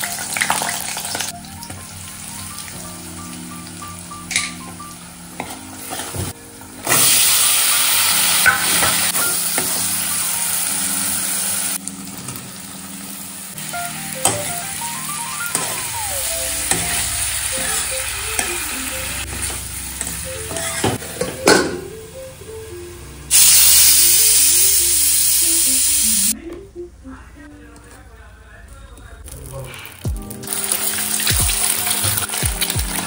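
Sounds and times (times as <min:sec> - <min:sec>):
food sizzling in hot oil: 0:00.0 - 0:20.9, 0:23.3 - 0:26.3, 0:30.0 - 0:33.0
soft background music: 0:00.0 - 0:33.0.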